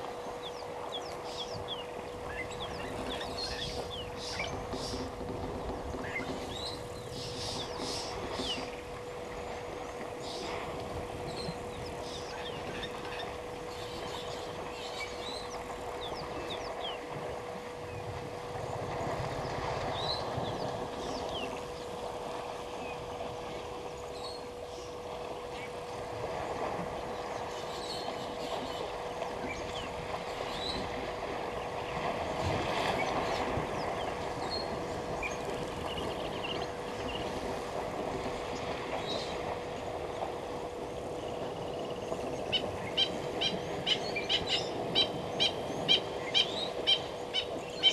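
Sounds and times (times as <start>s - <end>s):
steady hum: 0.0s - 47.9s.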